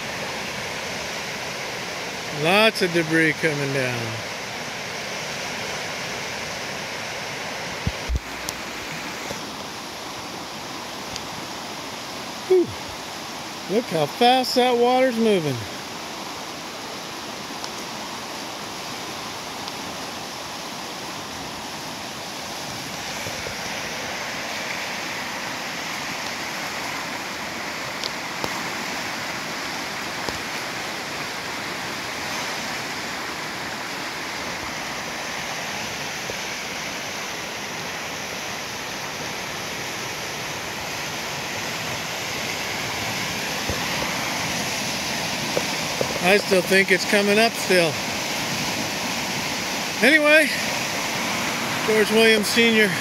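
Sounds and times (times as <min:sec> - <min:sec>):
floodwater rushing: 0:00.0 - 0:53.0.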